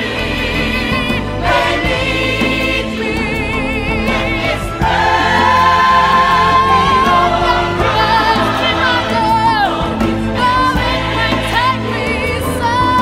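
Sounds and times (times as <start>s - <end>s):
low musical accompaniment: 0.0s - 13.0s.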